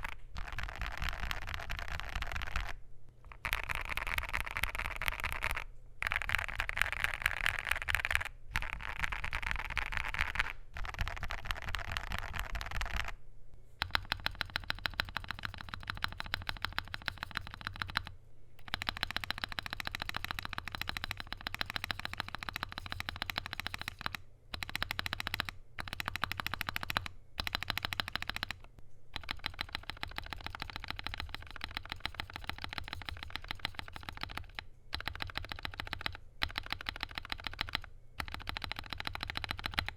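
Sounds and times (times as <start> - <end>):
fast typing on mechanical keyboard: 0.0 - 13.2, 13.8 - 39.9.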